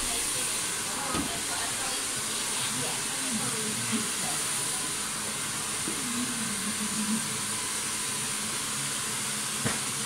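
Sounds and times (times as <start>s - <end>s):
hair dryer blowing: 0.0s - 10.0s.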